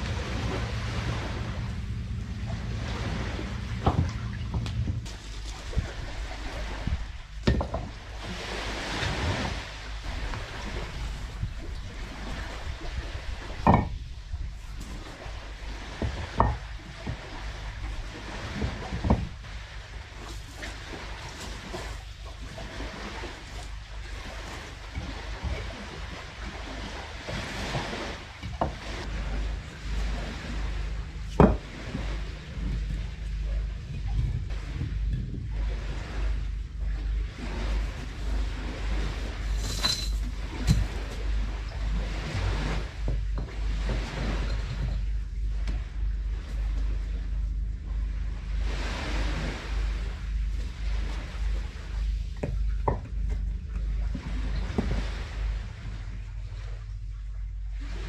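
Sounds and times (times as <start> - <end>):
surf washing: 0.0 - 58.0
wind rumble: 0.0 - 58.0.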